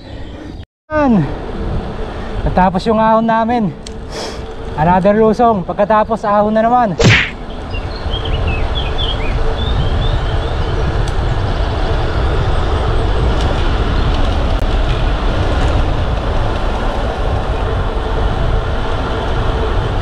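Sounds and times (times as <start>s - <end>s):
road and tyre noise: 0.0s - 20.0s
wind rush on microphone: 0.0s - 20.0s.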